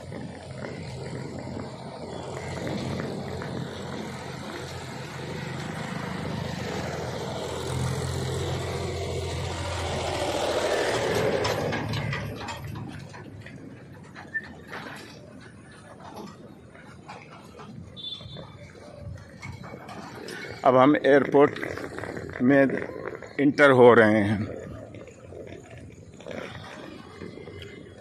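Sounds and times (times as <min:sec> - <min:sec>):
vehicle passing by: 0:00.0 - 0:28.0.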